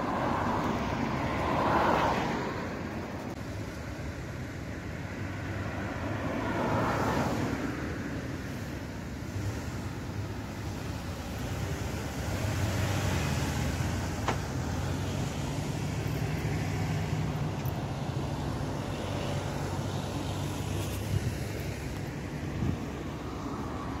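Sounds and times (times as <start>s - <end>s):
passing vehicles: 0.0s - 24.0s.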